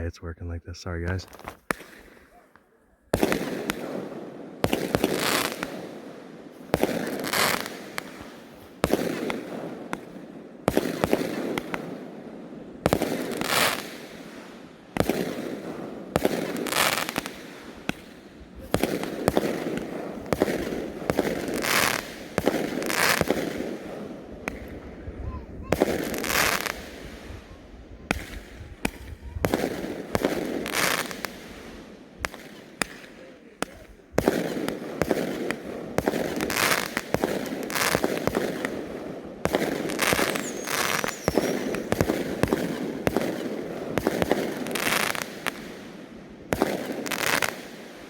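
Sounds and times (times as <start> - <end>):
fireworks bangs with crackle: 1.2 - 2.3, 3.1 - 48.0.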